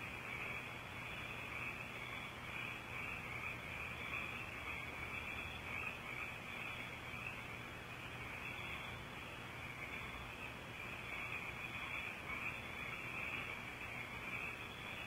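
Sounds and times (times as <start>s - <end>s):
chorus of frogs trilling: 0.0s - 15.0s.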